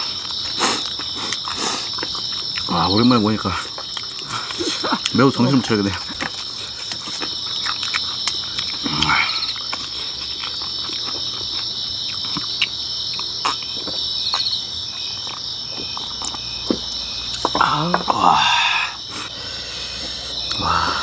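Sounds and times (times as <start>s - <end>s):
small clicks of eating: 0.0s - 18.1s
crickets chirping: 0.0s - 21.0s.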